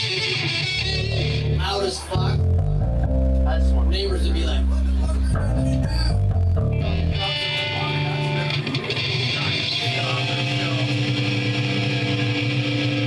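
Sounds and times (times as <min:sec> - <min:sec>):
electric guitar through amplifier: 0:00.0 - 0:13.0.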